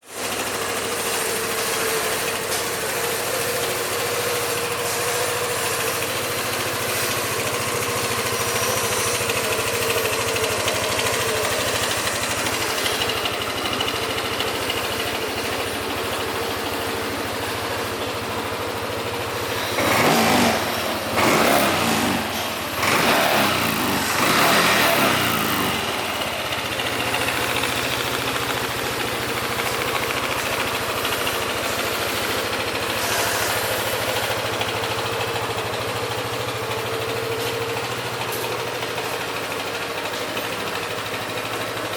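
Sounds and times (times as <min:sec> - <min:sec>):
scooter engine idling and revving: 0:00.0 - 0:41.9.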